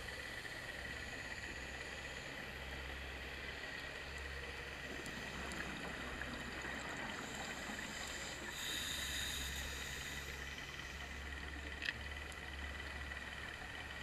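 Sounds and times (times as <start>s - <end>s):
underwater low hum and hiss: 0.0s - 14.0s.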